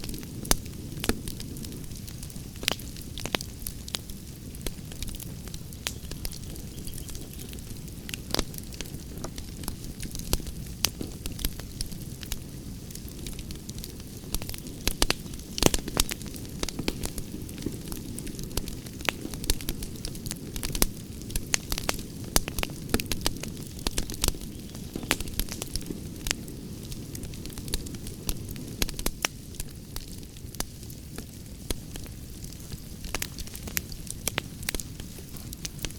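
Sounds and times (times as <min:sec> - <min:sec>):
campfire crackling: 0:00.0 - 0:35.9
low rumble of burning: 0:00.0 - 0:35.9.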